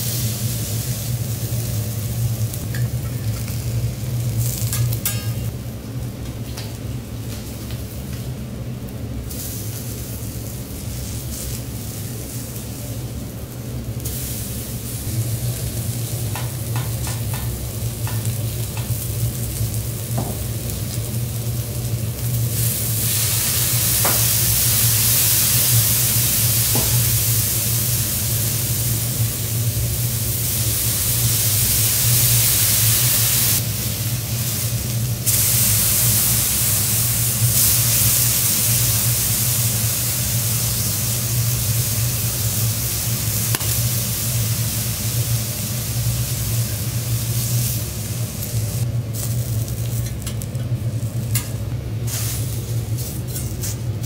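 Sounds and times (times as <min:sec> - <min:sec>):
fish sizzling on a griddle: 0:00.0 - 0:05.5, 0:09.2 - 0:54.0.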